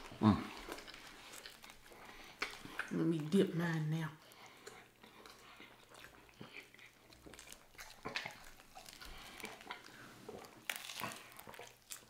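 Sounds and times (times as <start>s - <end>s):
biting and chewing burger: 0.0s - 2.9s, 4.5s - 12.0s
wet smacks and crackles: 0.0s - 3.3s, 4.3s - 12.0s.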